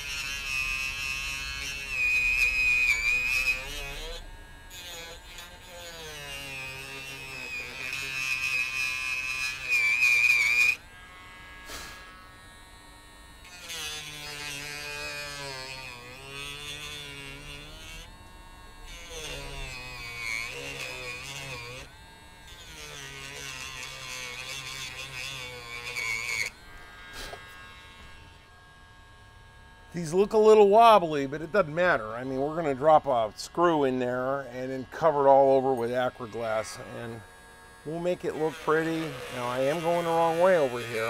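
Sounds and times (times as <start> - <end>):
rotary tool whining cutting wood: 0.0 - 41.0.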